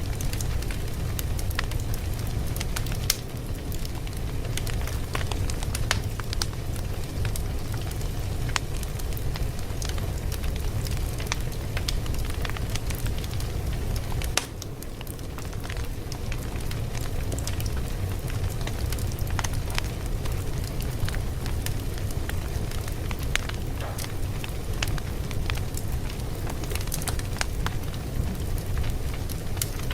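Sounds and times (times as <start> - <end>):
fire crackling and popping: 0.0 - 29.9.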